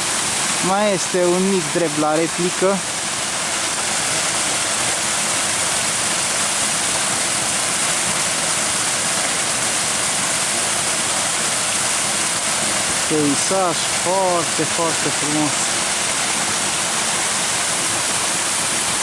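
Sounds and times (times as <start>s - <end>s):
waterfall splashing over rocks: 0.0s - 19.0s.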